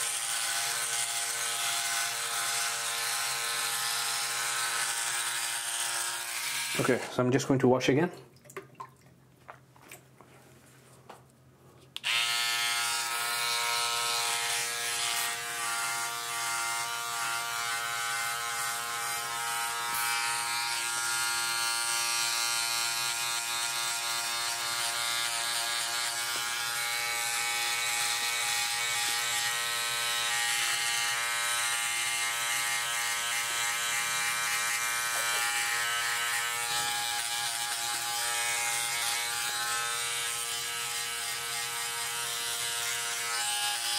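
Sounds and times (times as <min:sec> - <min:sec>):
electric trimmer buzzing: 0:00.0 - 0:07.0, 0:12.0 - 0:43.9.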